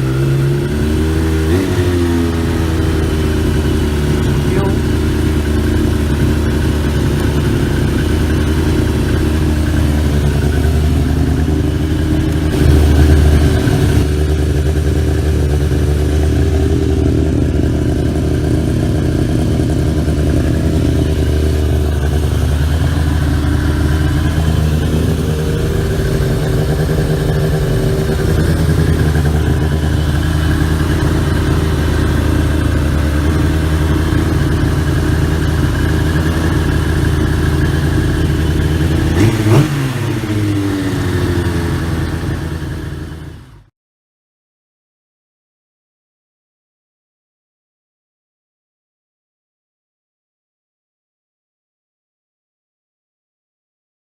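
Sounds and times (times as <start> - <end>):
motorcycle engine idling: 0.0 - 43.7.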